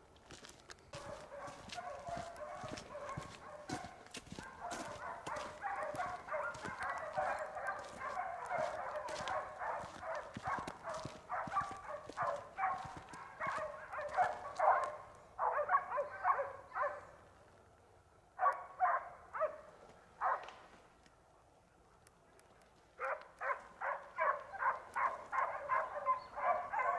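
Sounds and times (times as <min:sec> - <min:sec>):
distant dogs barking and baying: 0:00.4 - 0:17.4, 0:18.3 - 0:21.0, 0:22.9 - 0:26.9.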